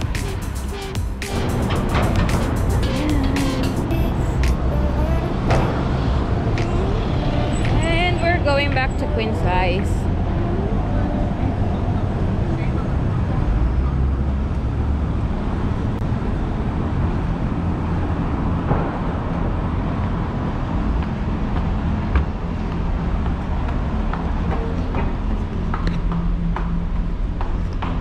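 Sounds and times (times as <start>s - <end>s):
city street traffic: 0.0s - 28.0s.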